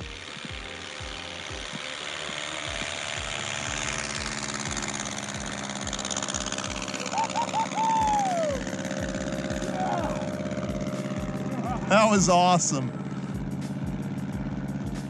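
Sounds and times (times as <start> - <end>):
light plane engine droning: 0.0 - 15.0.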